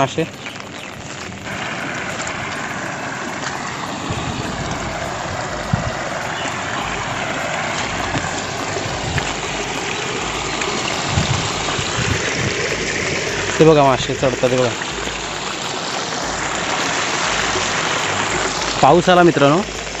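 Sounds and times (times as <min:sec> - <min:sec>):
flowing water: 0:00.0 - 0:20.0
rain falling: 0:00.0 - 0:20.0.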